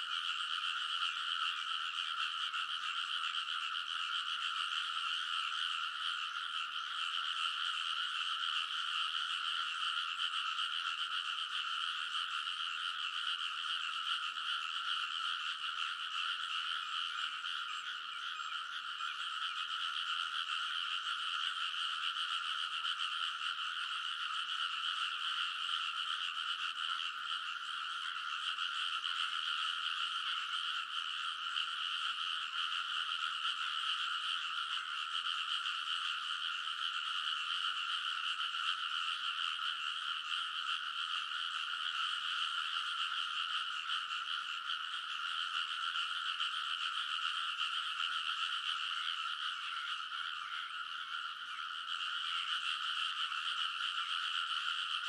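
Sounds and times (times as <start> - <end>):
chorus of frogs croaking: 0.0 - 55.0.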